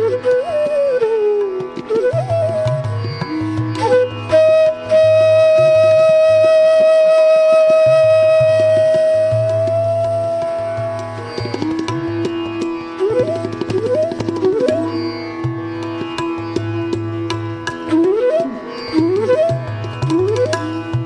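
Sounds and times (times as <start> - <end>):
sitar playing: 0.0 - 21.0
tabla strokes: 0.0 - 21.0.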